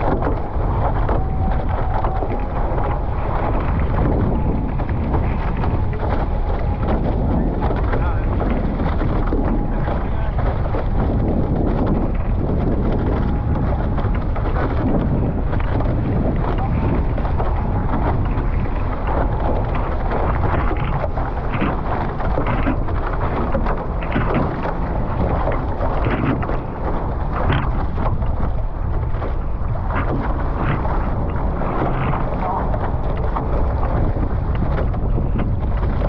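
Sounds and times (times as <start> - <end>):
short splashes: 0.0 - 36.0
water rushing past hulls: 0.0 - 36.0
wind rumbling on microphone: 0.0 - 36.0.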